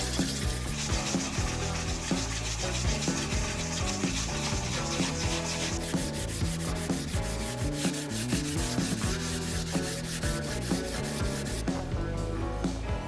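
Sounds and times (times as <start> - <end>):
sanding wood: 0.0 - 11.9
background music with beat: 0.0 - 13.0.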